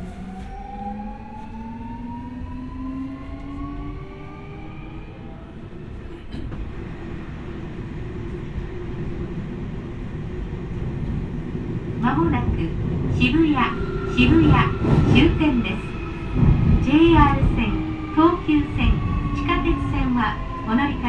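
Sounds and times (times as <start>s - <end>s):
train wheels rumbling on track: 2.4s - 21.0s.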